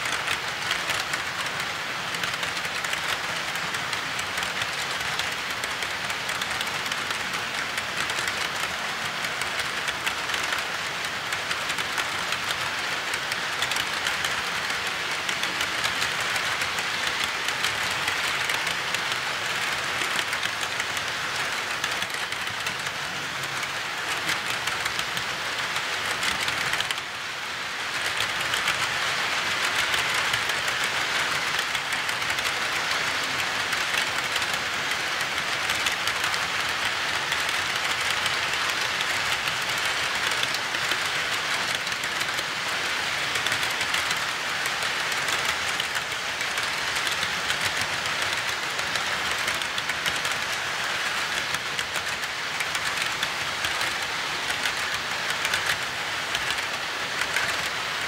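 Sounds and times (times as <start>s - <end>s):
model train wheels clicking: 0.0s - 58.0s.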